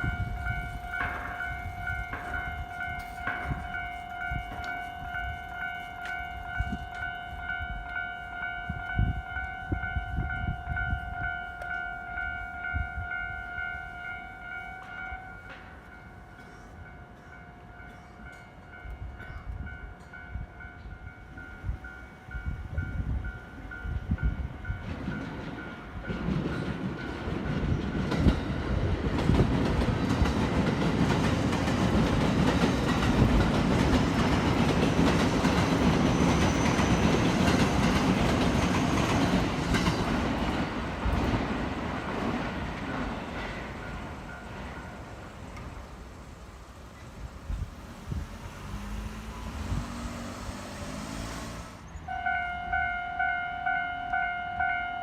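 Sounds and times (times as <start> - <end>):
train rumble and wheel clatter: 0.0 - 55.0.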